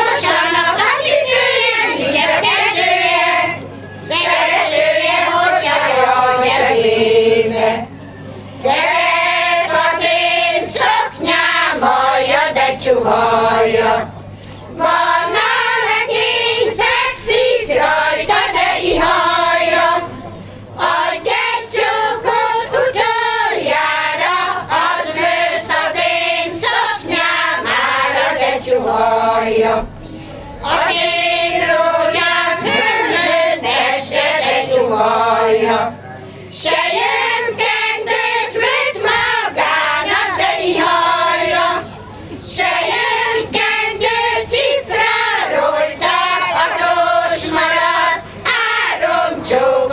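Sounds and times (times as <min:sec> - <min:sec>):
women's choir singing folk song: 0:00.0 - 0:49.9.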